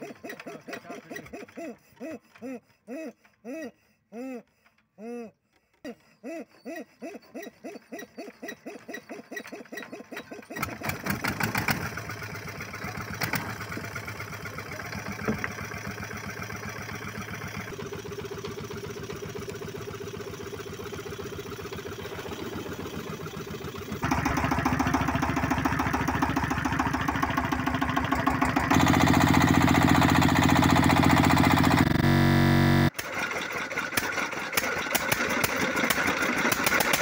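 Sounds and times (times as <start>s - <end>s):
small engines chugging: 0.0s - 4.8s, 5.5s - 37.0s.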